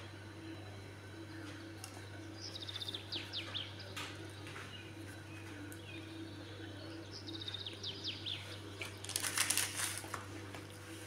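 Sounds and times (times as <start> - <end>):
birds chirping: 0.0 - 9.3
steady low hum: 0.0 - 11.0.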